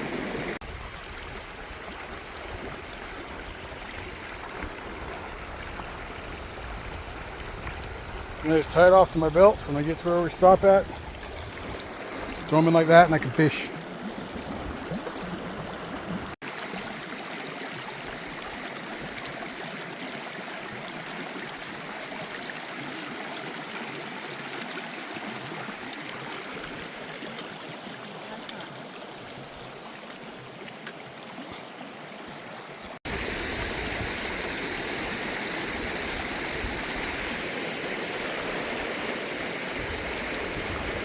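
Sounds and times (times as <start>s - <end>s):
creek water gurgling: 0.0s - 41.0s.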